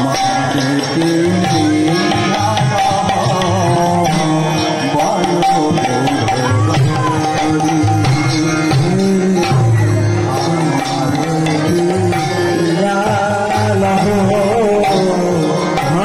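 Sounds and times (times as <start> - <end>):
sustained melodic instrument: 0.0 - 16.0.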